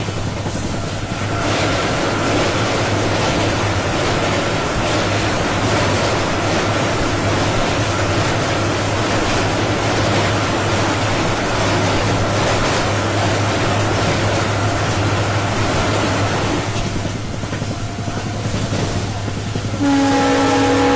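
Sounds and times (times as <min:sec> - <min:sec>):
train rushing at speed: 0:00.0 - 0:20.9.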